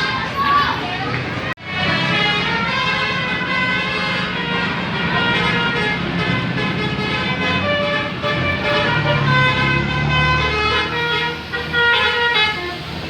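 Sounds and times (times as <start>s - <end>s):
bus engine running: 0.0s - 13.0s
musical bus horn melody: 1.6s - 13.0s.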